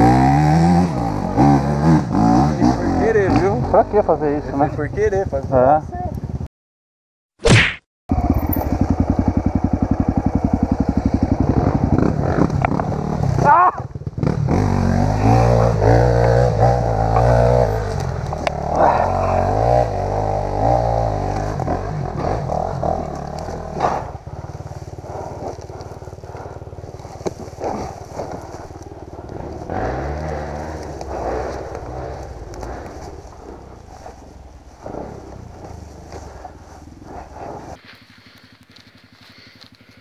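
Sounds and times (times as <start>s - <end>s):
dirt bike engine revving: 0.0s - 4.7s, 8.1s - 40.0s.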